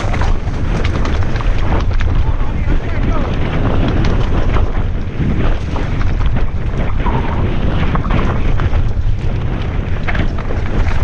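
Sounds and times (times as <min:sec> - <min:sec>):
bike knocks and rattles: 0:00.0 - 0:11.0
wind rumbling on microphone: 0:00.0 - 0:11.0.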